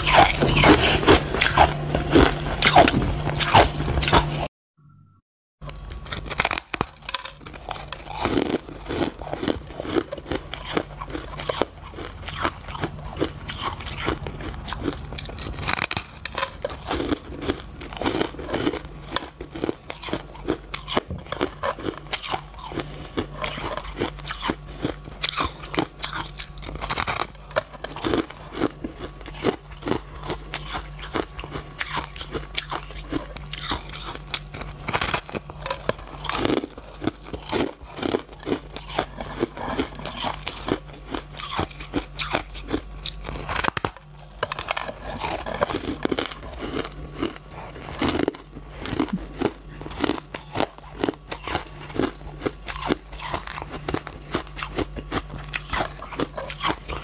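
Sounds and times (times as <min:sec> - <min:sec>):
crunching ice with teeth: 0:00.0 - 0:04.5, 0:05.6 - 0:57.0.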